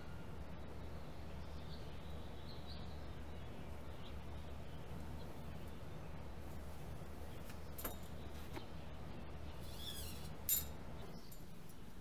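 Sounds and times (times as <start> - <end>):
faint bird chirp: 0.0 - 11.9
steady low hum: 0.0 - 12.0.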